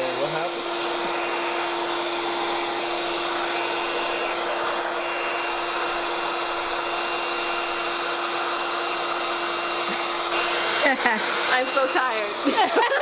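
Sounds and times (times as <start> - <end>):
hair dryer rushing airflow: 0.0 - 13.0.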